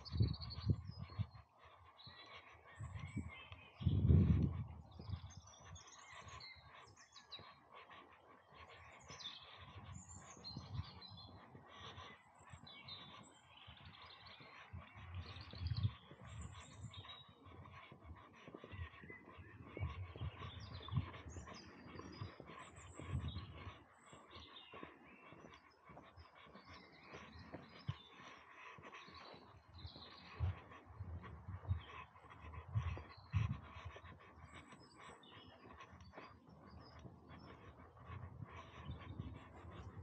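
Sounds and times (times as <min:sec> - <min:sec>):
birds chirping and warbling: 0:00.0 - 0:40.0.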